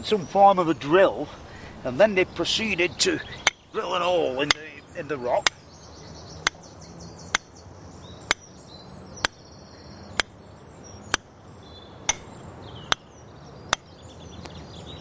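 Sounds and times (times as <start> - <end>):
high chirping: 2.7 - 15.0.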